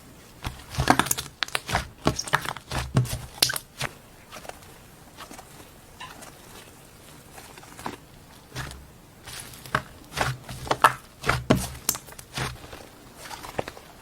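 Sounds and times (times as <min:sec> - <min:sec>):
crunchy slime crackling: 0:00.4 - 0:14.0.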